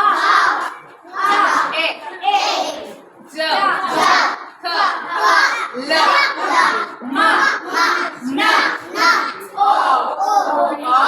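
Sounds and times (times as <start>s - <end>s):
children chanting in unison: 0.0s - 11.0s.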